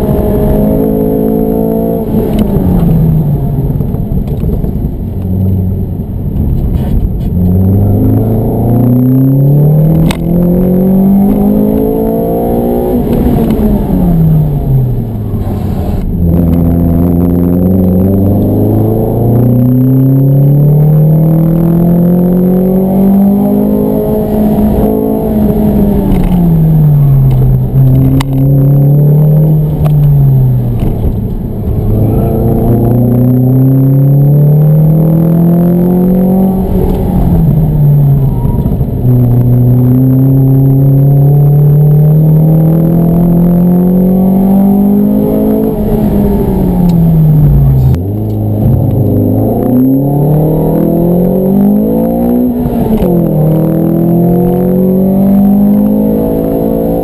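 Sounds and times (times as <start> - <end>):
car engine revving under acceleration: 0.0 - 57.0.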